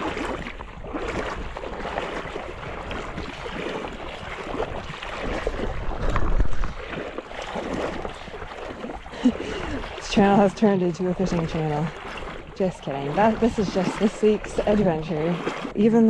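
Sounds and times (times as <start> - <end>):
wind buffeting microphone: 0.0 - 15.8
lapping water: 0.0 - 16.0.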